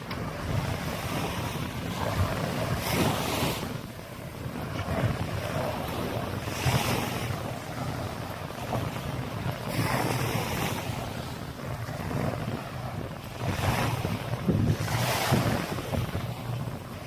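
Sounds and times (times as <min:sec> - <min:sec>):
waves washing onto sandy beach: 0:00.0 - 0:17.0
wind rumbling on microphone: 0:00.0 - 0:17.0.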